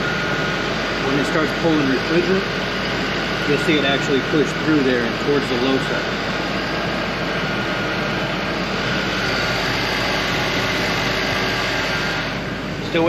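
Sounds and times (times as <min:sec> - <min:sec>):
belt drive whine: 0:00.0 - 0:13.0.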